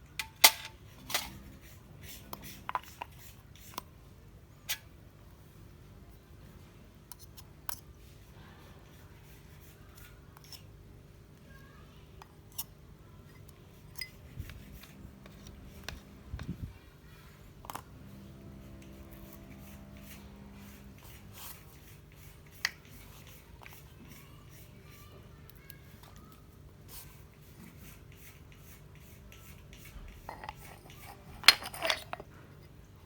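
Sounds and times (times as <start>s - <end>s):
faint steady hum: 0.0s - 27.2s.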